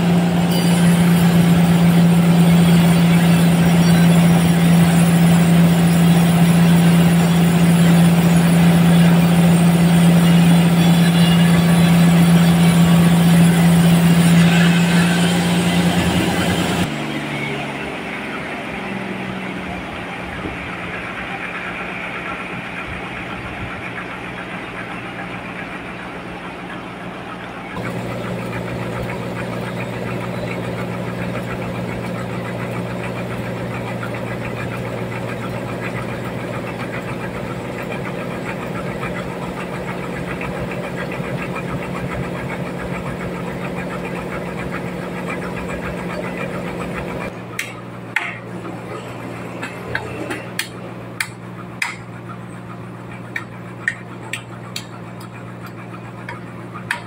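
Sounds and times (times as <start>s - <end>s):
band saw droning: 0.0s - 57.0s.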